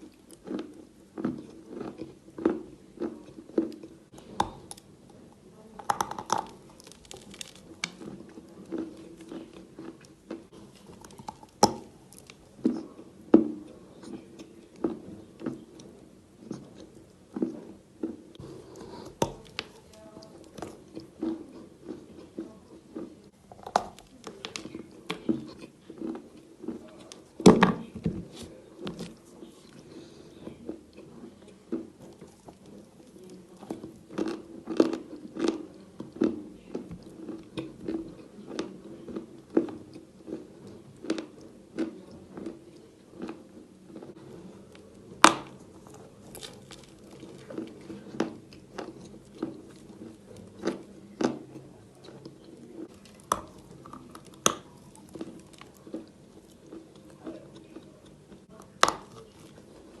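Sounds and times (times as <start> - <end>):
chalk crunching and chewing: 0.0 - 4.9, 5.8 - 27.4, 28.3 - 60.0.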